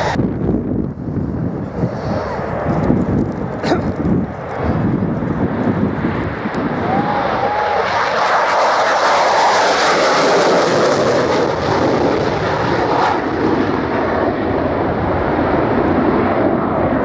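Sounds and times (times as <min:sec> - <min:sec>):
fighter jet noise: 0:00.0 - 0:17.0.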